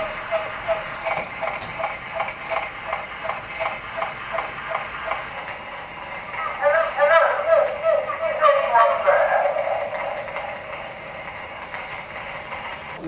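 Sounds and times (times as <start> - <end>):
phonograph surface hiss: 0.0 - 13.0
pulsing crackle: 0.0 - 13.0.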